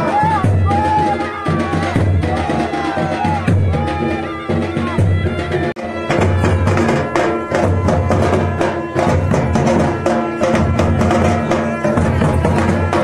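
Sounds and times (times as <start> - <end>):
large drums beating: 0.0 - 13.0
reedy wind instrument melody: 0.0 - 13.0.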